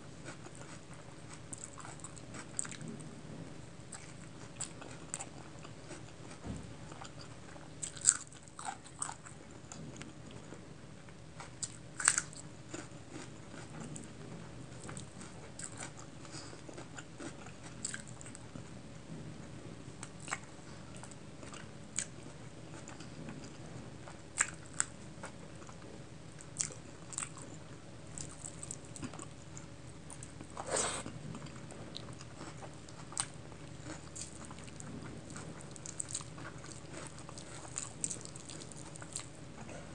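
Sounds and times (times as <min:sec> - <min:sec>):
chewing and wet mouth sounds: 0:00.2 - 0:03.2, 0:03.9 - 0:10.6, 0:11.4 - 0:18.7, 0:20.0 - 0:39.9.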